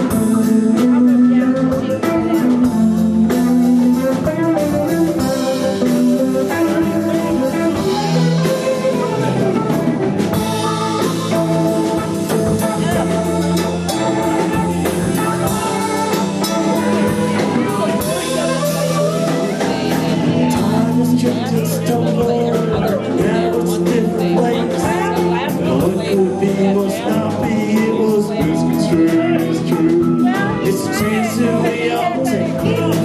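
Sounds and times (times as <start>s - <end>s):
acoustic guitar: 0.0s - 33.0s
drum kit: 0.0s - 33.0s
electric bass: 0.0s - 33.0s
hollow-body electric guitar: 0.0s - 33.0s.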